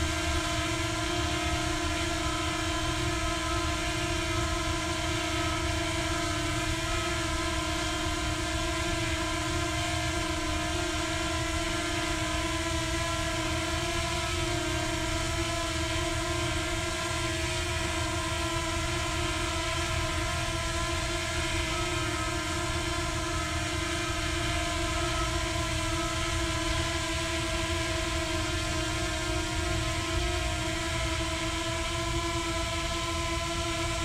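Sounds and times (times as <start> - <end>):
drone propellers buzzing: 0.0 - 34.0.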